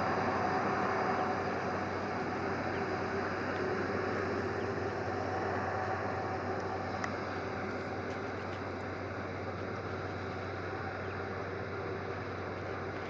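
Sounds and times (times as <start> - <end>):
jet engines running at low power: 0.0 - 13.0.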